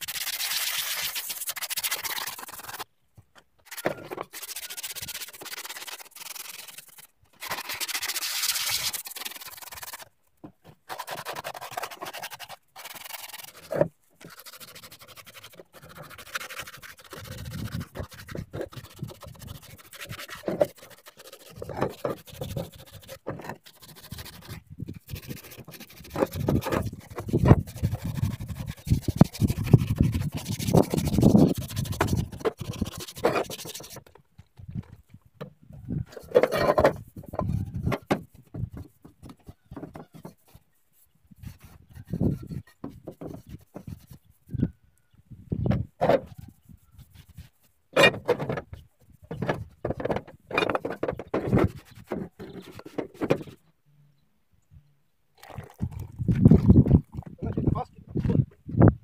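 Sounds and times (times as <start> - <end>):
sandpaper rubbing on plastic: 0.0 - 2.9, 3.7 - 10.1, 10.8 - 34.2, 36.2 - 44.7, 46.1 - 48.6, 49.2 - 53.6.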